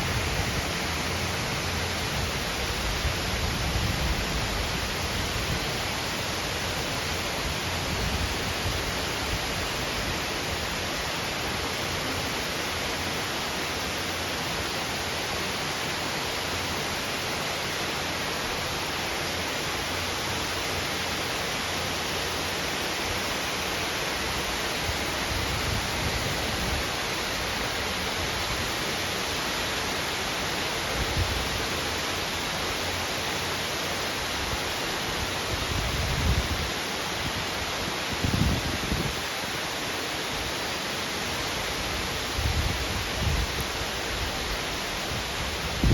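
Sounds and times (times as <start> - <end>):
heavy rain pouring: 0.0 - 45.9
low wind gusts: 0.0 - 45.9.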